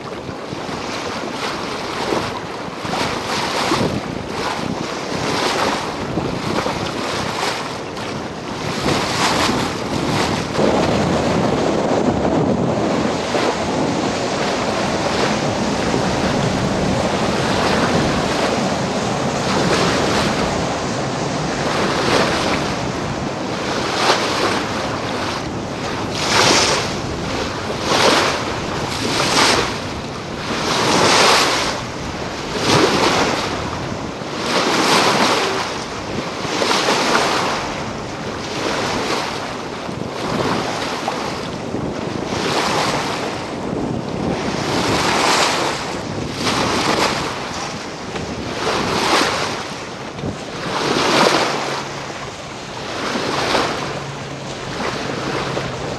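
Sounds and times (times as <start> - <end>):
water splashing against boat: 0.0 - 55.9
wind buffeting microphone: 0.0 - 55.9.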